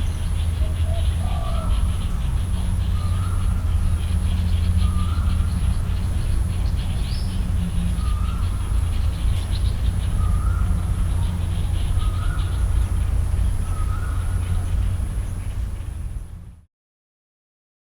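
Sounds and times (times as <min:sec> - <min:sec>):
birds chirping: 0:00.0 - 0:16.6
steady low rumble: 0:00.0 - 0:16.7.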